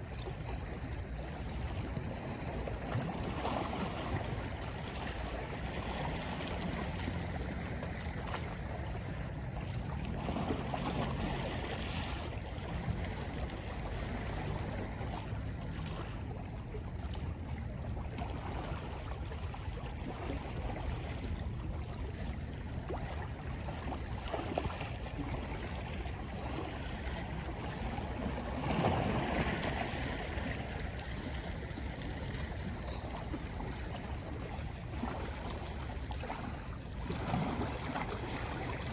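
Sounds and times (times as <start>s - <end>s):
sea waves washing ashore: 0.0s - 38.9s.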